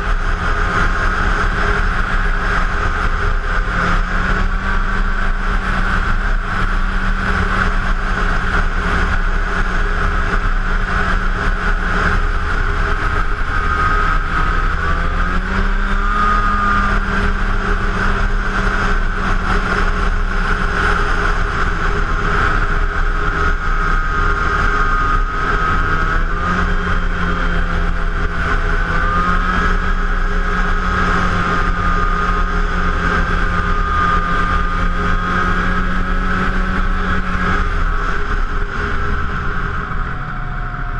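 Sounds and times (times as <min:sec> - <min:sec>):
snowmobile engine running: 0:00.0 - 0:40.9
steady rush of noise: 0:00.0 - 0:40.9.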